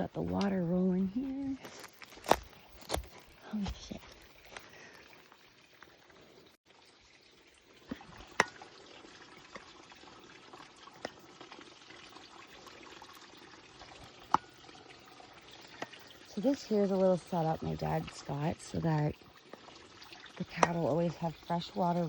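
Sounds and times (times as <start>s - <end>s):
water pouring and trickling: 0.0s - 22.0s.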